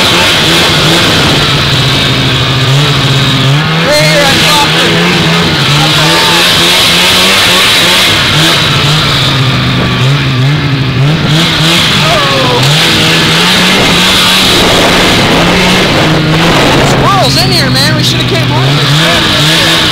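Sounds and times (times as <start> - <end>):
steady rushing noise: 0.0 - 19.9
two-stroke snowmobile engine: 0.0 - 19.9.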